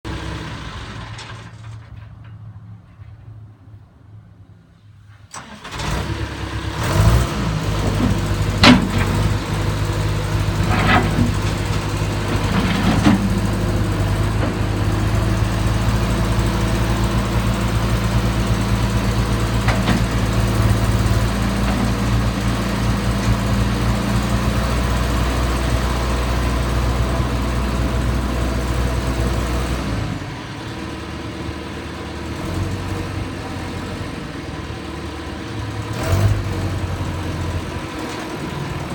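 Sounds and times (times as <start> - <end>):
diesel engine running: 0.0 - 2.1, 5.4 - 38.9.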